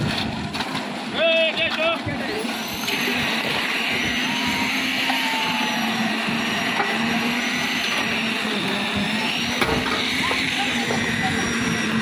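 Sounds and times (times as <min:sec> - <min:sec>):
concrete mixer running: 0:00.0 - 0:12.0.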